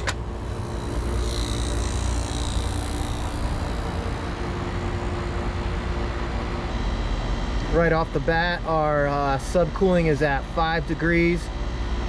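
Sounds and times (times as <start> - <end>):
compressor hum: 0.0 - 12.0
outdoor fan whooshing: 0.0 - 12.0.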